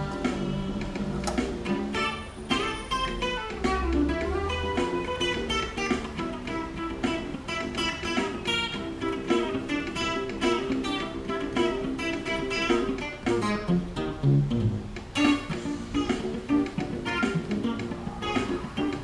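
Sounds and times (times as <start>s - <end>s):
electric guitar playing funk: 0.0s - 19.0s
funk backing track: 0.0s - 19.0s.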